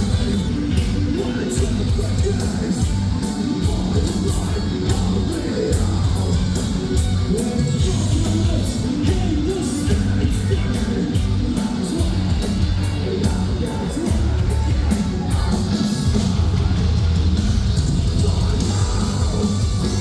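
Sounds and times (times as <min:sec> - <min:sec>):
bass: 0:00.0 - 0:20.0
distorted guitars: 0:00.0 - 0:20.0
drums: 0:00.0 - 0:20.0
sung and shouted vocal: 0:00.0 - 0:20.0.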